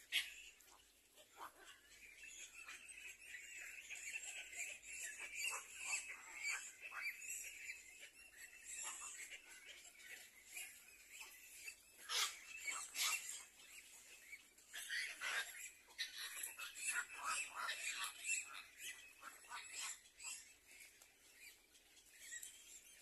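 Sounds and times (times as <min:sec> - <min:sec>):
faint bird chirps: 0:00.0 - 0:23.0
loud bird calls: 0:00.0 - 0:23.0.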